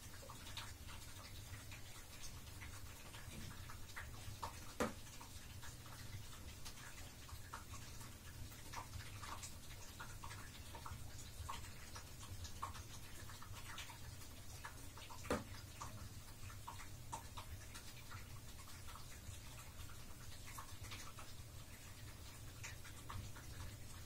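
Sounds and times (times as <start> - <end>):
water dripping in bathtub: 0.0 - 24.0.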